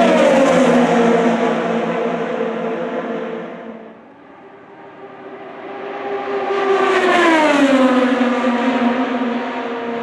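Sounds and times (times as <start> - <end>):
approaching race car engine: 0.0 - 10.0
race car engine passing: 0.0 - 10.0.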